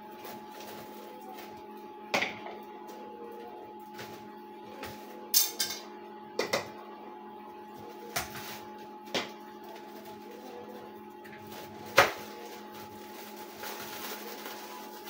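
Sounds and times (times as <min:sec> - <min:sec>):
cotton candy machine motor hum: 0:00.0 - 0:15.0.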